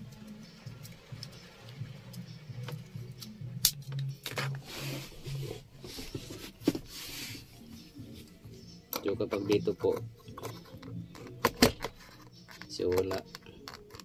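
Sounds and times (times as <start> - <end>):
background music with pulsing beat: 0.0 - 14.0.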